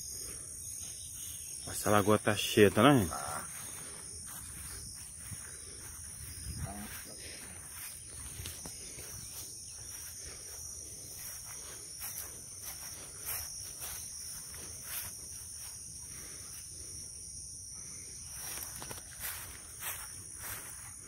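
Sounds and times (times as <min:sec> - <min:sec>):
chorus of crickets: 0:00.0 - 0:21.0.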